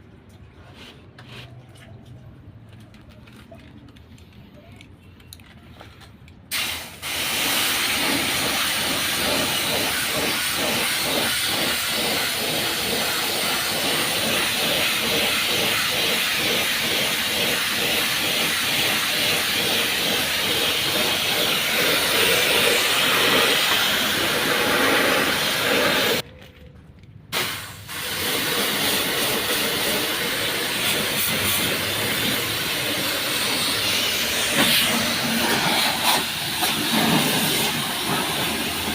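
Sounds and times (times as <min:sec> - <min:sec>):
high-pressure water jet spraying: 0:06.5 - 0:26.2, 0:27.4 - 0:38.9.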